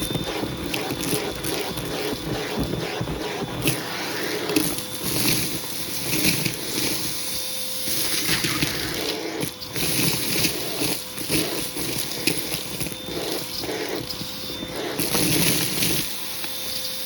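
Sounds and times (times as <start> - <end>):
vacuum cleaner on rug: 0.0 - 17.0.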